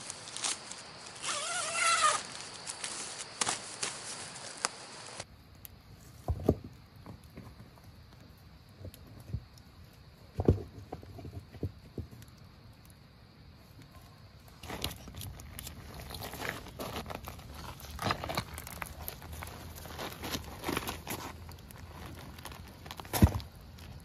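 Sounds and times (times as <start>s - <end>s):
campfire crackling and popping: 0.0s - 10.3s, 10.9s - 24.0s.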